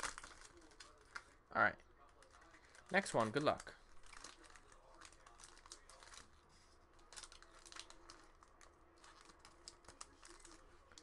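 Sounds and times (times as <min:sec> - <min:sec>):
card pack wrapper crinkling: 0:00.0 - 0:01.3, 0:02.2 - 0:06.3, 0:07.0 - 0:11.0.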